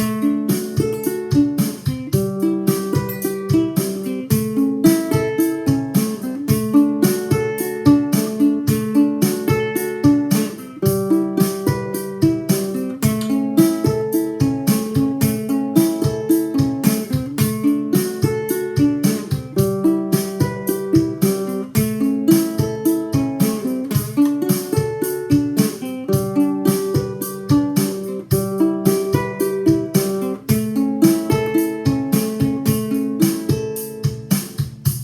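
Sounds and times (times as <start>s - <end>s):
drum machine beat: 0.0s - 35.0s
ukulele finger-picked: 0.0s - 35.0s.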